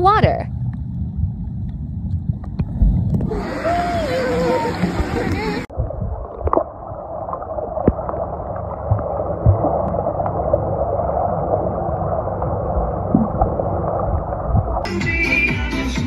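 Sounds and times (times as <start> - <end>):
muffled underwater water rumble: 0.0 - 14.9
underwater knocks and gurgles: 0.2 - 3.3, 4.7 - 14.9.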